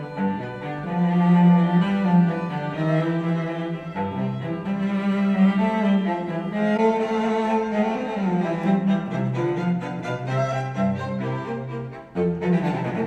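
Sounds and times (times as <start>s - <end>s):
classical string music with cello: 0.0s - 13.0s.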